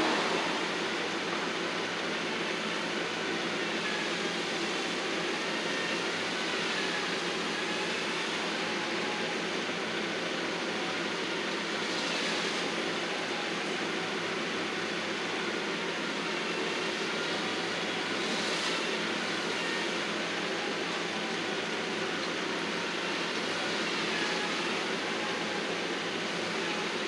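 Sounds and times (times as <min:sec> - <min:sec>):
landscaping equipment engine drone: 0:00.0 - 0:27.0.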